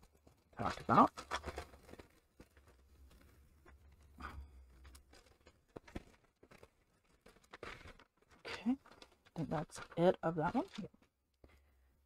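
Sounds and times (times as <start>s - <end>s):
paper bag rustling: 0.0s - 11.1s.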